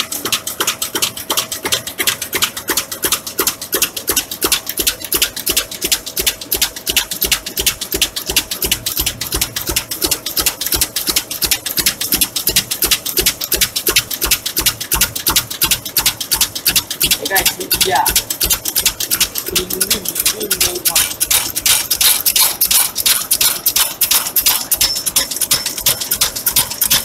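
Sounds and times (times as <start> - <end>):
dicing machine cutter clacking: 0.0 - 27.0
faint steady machine hum: 0.0 - 27.0.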